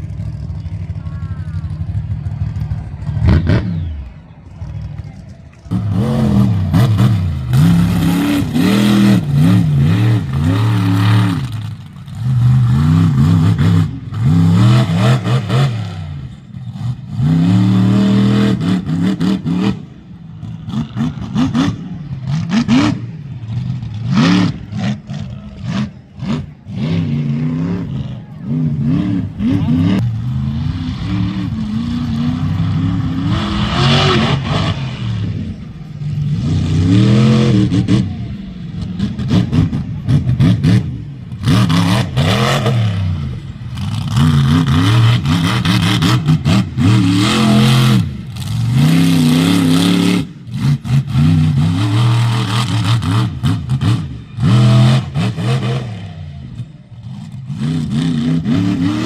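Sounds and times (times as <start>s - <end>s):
truck engines revving hard: 0.0s - 59.0s.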